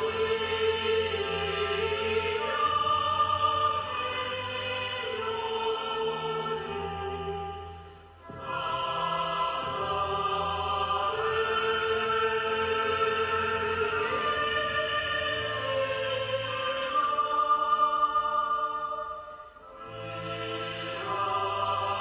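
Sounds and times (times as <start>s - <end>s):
choir singing long held notes: 0.0s - 22.0s.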